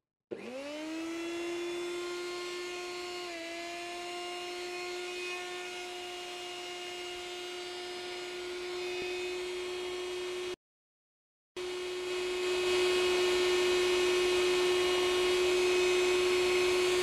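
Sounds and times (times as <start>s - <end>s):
electric motor whining: 0.3s - 10.6s, 11.6s - 17.0s.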